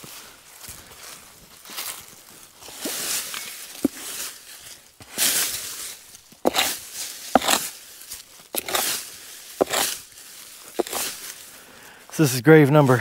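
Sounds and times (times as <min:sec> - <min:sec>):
stiff brush sweeping concrete: 0:00.0 - 0:11.5.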